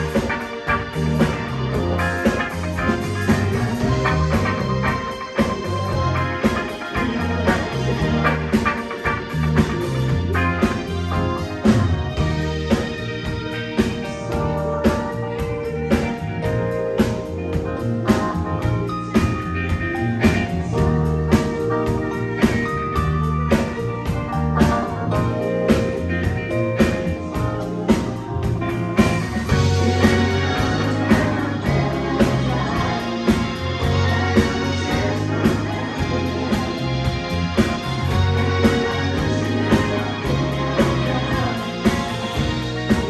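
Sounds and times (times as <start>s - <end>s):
live band guitar and drums: 0.0s - 43.0s.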